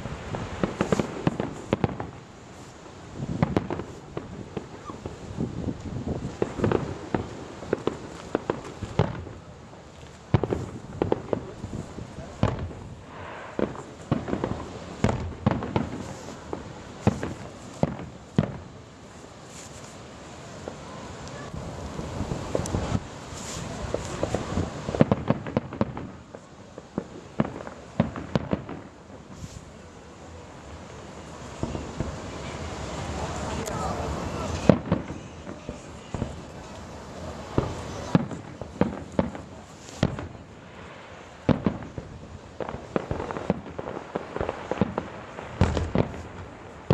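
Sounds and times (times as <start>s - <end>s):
fireworks exploding: 0.0s - 46.9s.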